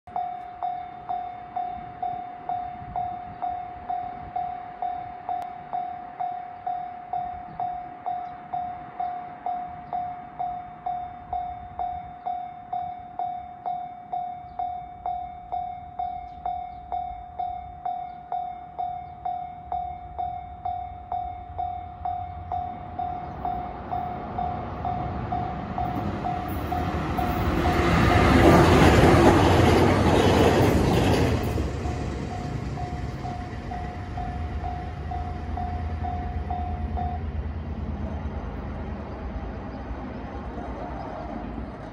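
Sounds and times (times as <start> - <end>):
level crossing warning bell: 0.1 - 37.8
electric train rumble and rail noise: 0.1 - 41.9.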